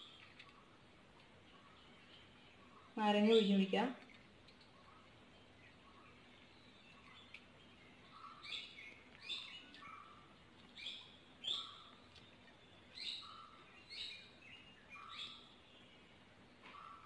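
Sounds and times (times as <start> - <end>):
bird chirping: 0.0 - 17.0
faint background hum: 0.0 - 17.0.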